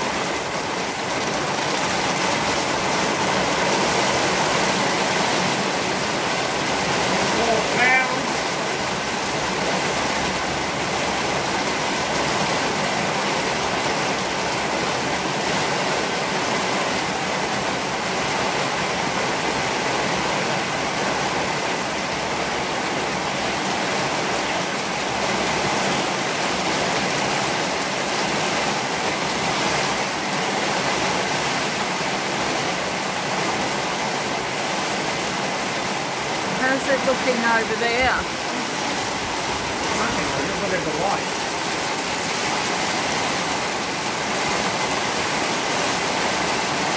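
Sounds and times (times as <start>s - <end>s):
heavy rain hissing: 0.0s - 46.9s.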